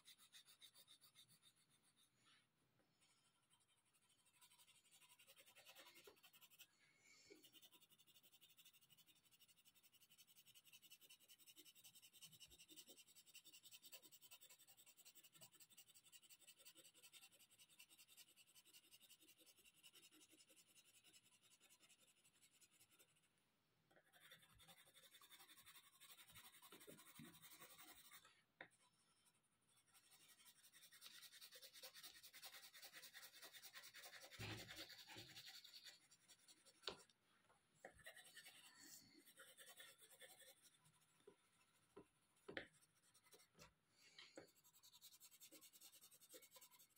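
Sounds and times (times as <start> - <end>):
colored pencil scratching on paper: 0.0 - 37.1, 37.8 - 46.9.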